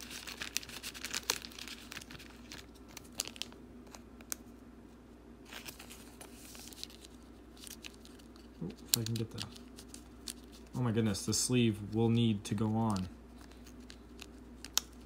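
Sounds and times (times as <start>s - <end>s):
plastic card sleeve crinkling: 0.0s - 4.5s, 5.4s - 15.0s.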